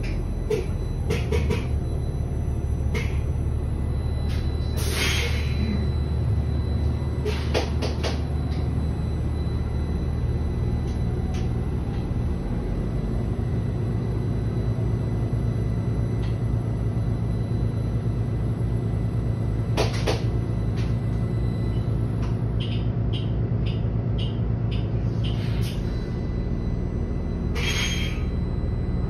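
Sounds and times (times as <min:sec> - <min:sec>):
bus engine hum: 0:00.0 - 0:29.0.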